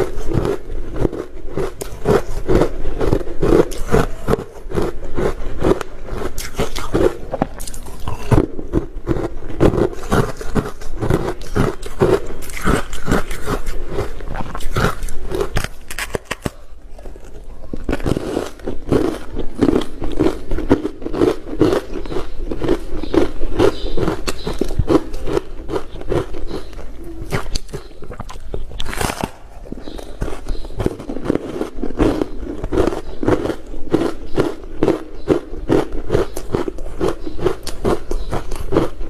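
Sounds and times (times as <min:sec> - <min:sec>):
crunchy ice chewing: 0:00.0 - 0:39.0.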